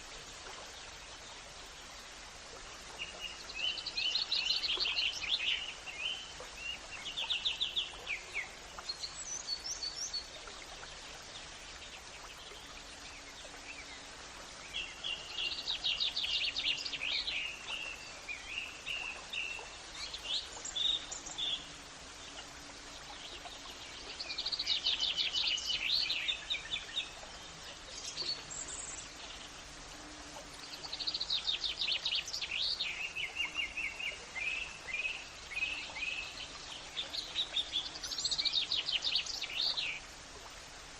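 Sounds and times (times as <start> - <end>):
steady background hiss: 0.0 - 40.9
songbirds trilling and chirping: 2.8 - 40.1.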